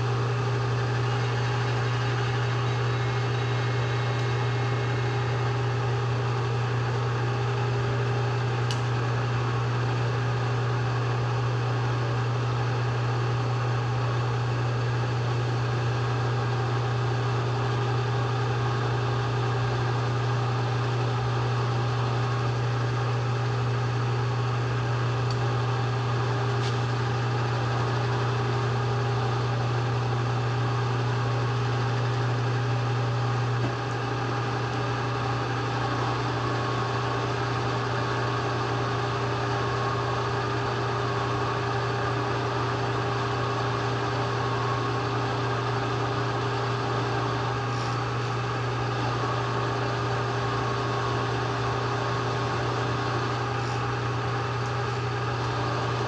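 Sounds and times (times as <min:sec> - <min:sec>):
electric motor hum: 0:00.0 - 0:56.0.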